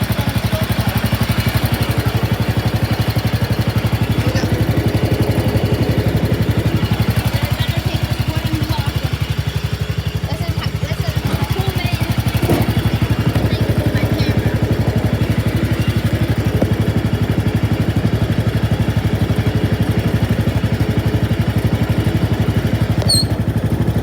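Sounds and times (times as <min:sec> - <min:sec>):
garden tractor engine idling: 0:00.0 - 0:24.0.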